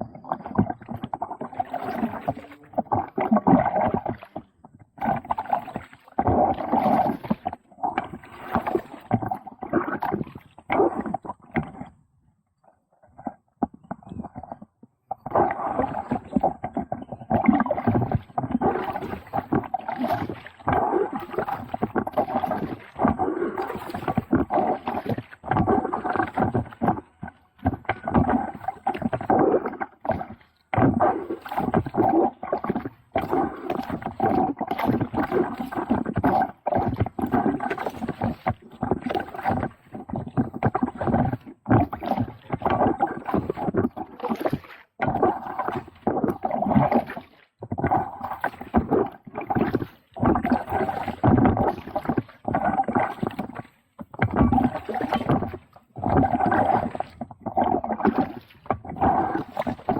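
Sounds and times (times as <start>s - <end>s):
water splashing around a kayak: 0.0s - 59.9s.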